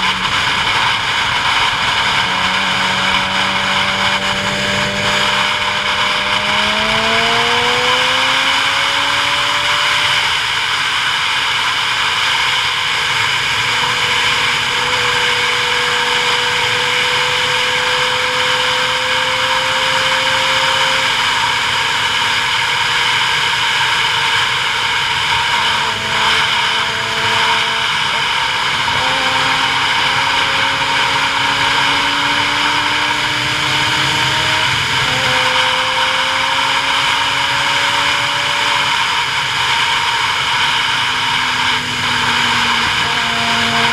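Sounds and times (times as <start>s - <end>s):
motor tone rising in pitch: 0.0s - 10.3s, 13.4s - 22.3s, 25.0s - 43.9s
road noise: 0.0s - 43.9s.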